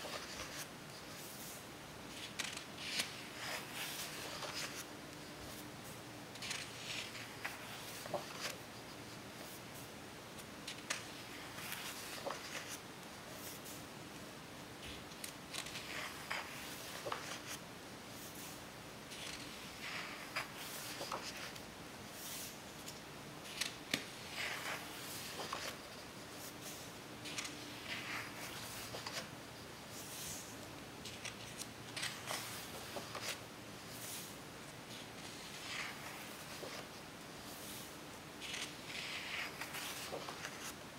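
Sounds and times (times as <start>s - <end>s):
book pages turning: 0.0s - 13.8s, 14.8s - 17.6s, 18.2s - 40.8s.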